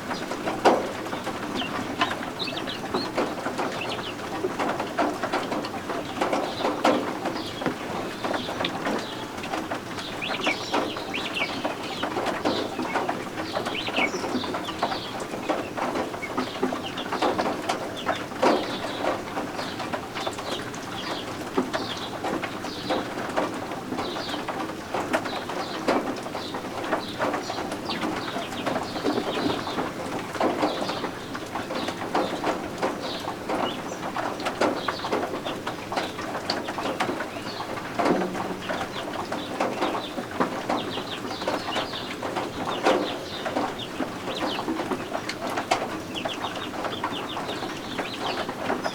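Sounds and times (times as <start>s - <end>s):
chicks peeping: 0.1s - 48.9s.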